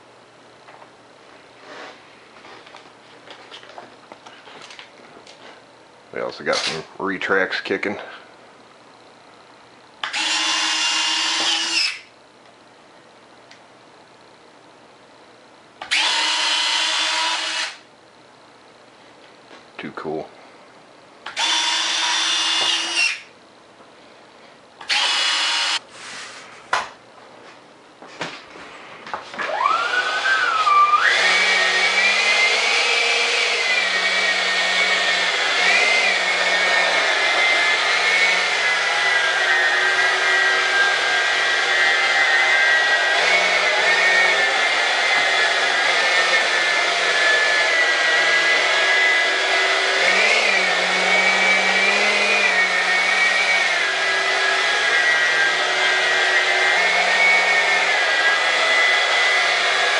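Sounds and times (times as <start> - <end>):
electric ducted fan whine: 0.0 - 59.9.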